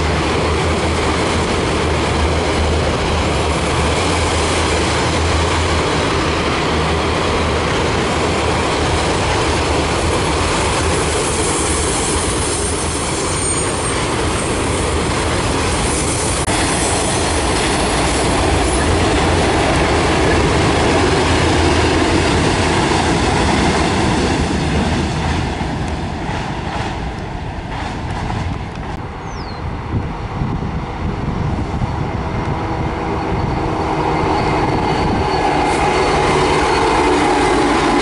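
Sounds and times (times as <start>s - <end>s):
locomotive rumble: 0.0s - 38.0s.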